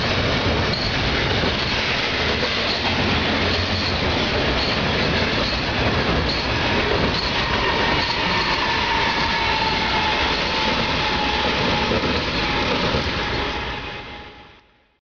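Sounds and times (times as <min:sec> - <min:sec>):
wheels rumbling on rail: 0:00.0 - 0:14.6
diesel locomotive engines: 0:00.0 - 0:15.0.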